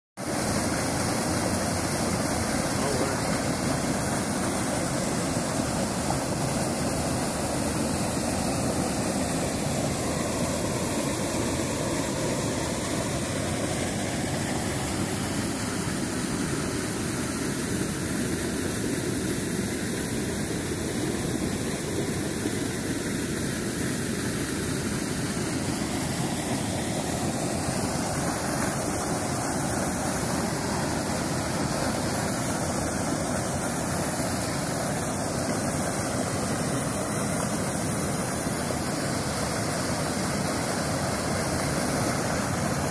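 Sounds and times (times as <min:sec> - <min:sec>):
floodwater pouring over a dam: 0:00.2 - 0:42.9.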